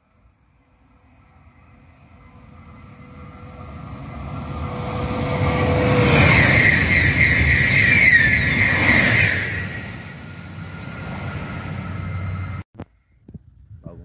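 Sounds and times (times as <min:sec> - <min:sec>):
high-speed train passing: 0:00.0 - 0:12.6
steady train whine: 0:00.0 - 0:12.7.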